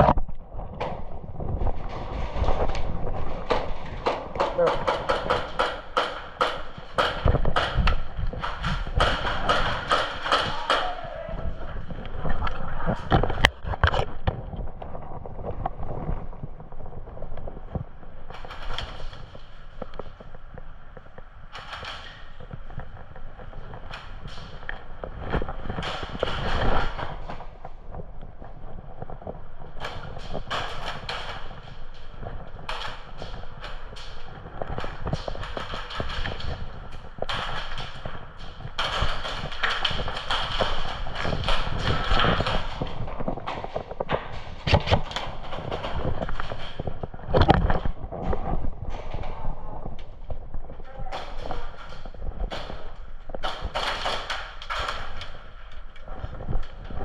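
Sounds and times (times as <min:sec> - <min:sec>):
rustling: 0:00.0 - 0:57.0.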